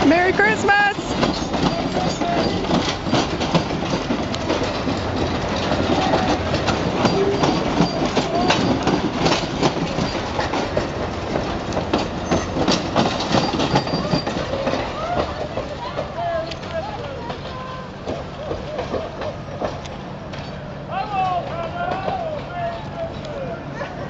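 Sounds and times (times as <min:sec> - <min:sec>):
train cars rumbling past: 0:00.0 - 0:24.0
wheels clicking over rail joints: 0:00.0 - 0:24.0.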